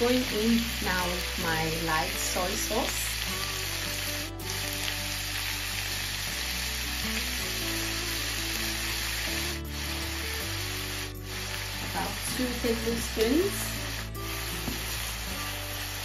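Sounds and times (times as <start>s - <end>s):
prawns sizzling in frying pan: 0.0s - 16.0s.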